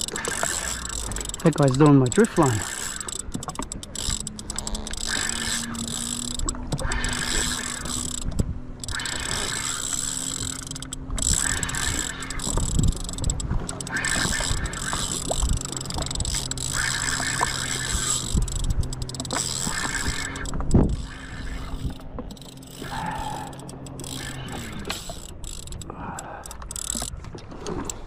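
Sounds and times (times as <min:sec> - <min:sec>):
fishing reel cranking: 0:00.0 - 0:28.0
wind: 0:00.0 - 0:28.0.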